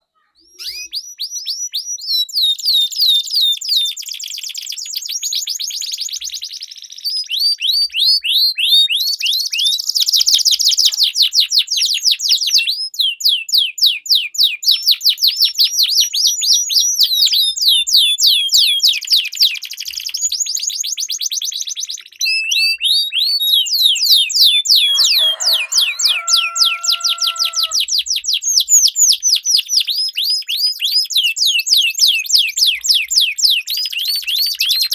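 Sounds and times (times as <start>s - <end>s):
canaries singing trilled song: 0.2s - 34.9s.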